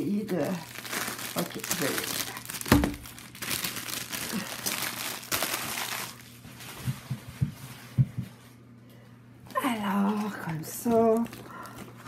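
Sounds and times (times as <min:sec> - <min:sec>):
plastic wrapping crinkling: 0:00.0 - 0:07.4, 0:09.5 - 0:12.0.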